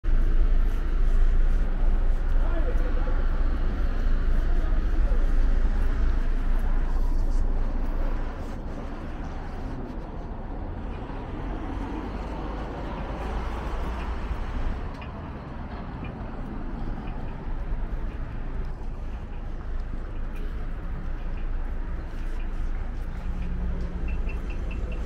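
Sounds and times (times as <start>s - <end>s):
cars on the road: 0.0s - 25.0s.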